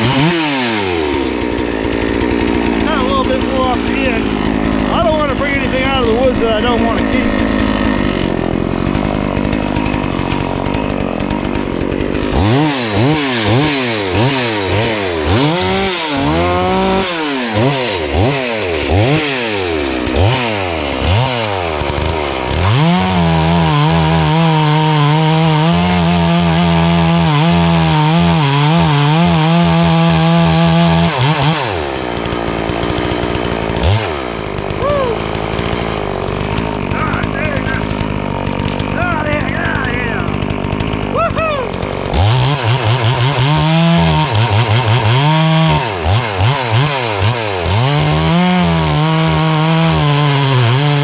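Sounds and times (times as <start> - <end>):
chainsaw engine revving: 0.0 - 51.0.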